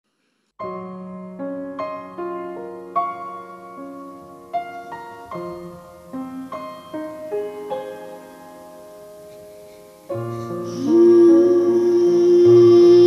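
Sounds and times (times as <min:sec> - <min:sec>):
slow solo piano: 0:00.6 - 0:13.0.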